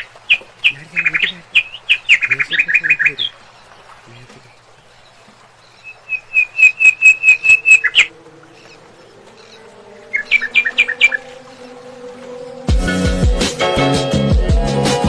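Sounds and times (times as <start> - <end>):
bird calling in rapid notes: 0.0 - 12.4.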